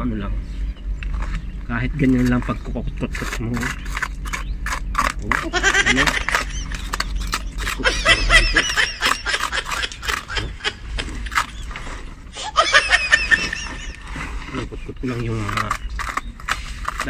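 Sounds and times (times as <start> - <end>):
metal scraping: 0.4 - 17.0
hand tools chipping concrete: 1.7 - 17.0.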